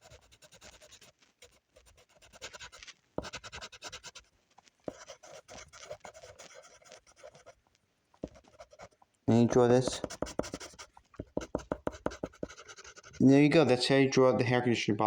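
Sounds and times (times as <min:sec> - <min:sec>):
drawing tool scratching on paper: 0:00.0 - 0:07.6, 0:08.2 - 0:13.3.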